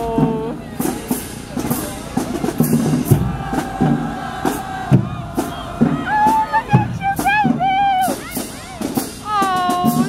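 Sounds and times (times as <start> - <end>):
bass drum and snare beat: 0.0 - 10.0.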